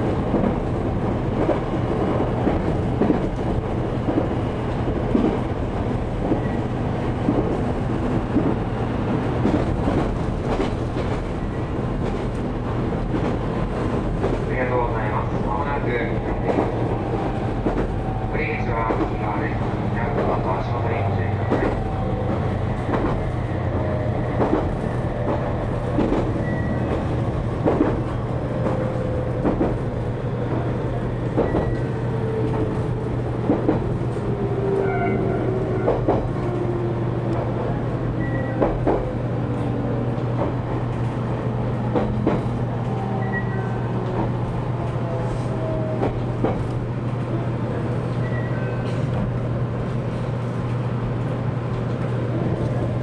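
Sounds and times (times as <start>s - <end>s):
train interior hum: 0.0s - 53.0s.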